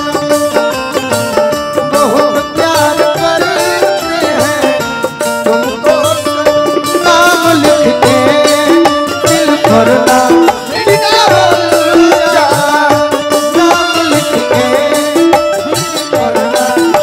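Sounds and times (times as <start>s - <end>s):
band music with drums: 0.0s - 17.0s.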